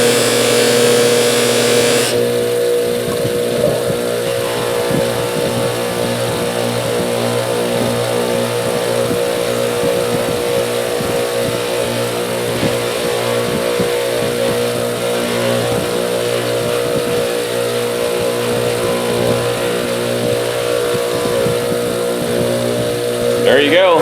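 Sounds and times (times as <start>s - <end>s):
metal grinding hiss: 0.0s - 2.5s, 3.9s - 22.2s
bench polisher motor humming: 0.0s - 23.4s.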